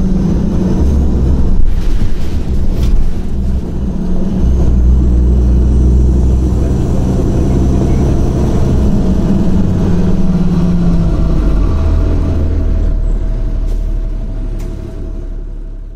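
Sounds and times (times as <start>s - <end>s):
bus diesel engine droning: 0.0s - 15.9s.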